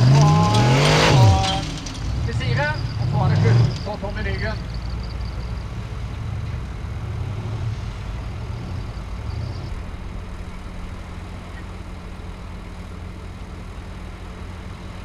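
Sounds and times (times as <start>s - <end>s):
off-road car engine idling: 0.0s - 15.0s.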